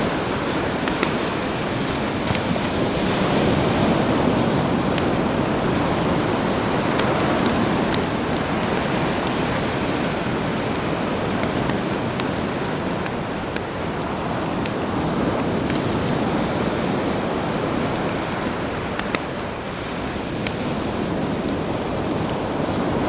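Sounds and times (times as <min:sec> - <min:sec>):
campfire crackling: 0:00.0 - 0:23.0
sea surf washing: 0:00.0 - 0:23.0.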